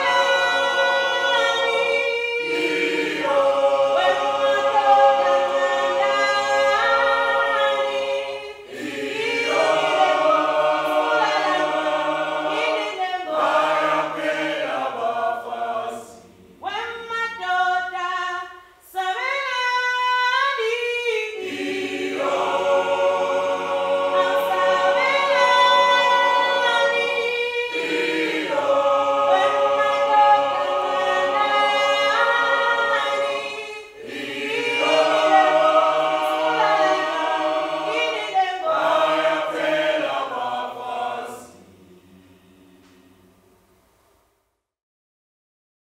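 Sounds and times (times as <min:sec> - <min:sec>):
choir singing in harmony: 0:00.0 - 0:43.3.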